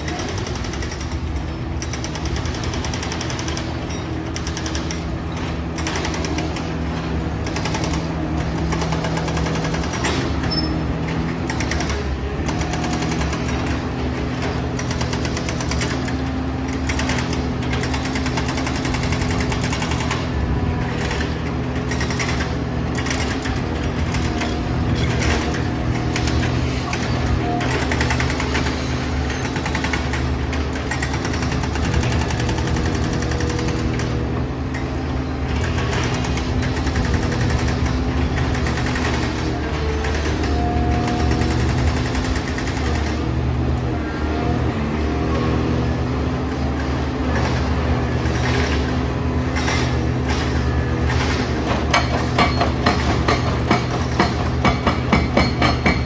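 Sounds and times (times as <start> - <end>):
excavator diesel engine working: 0.0 - 56.0.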